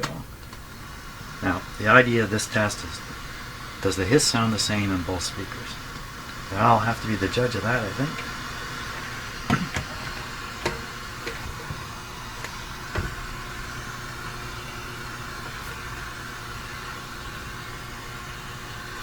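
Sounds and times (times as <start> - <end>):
radio hiss through loudspeakers: 0.0 - 19.0.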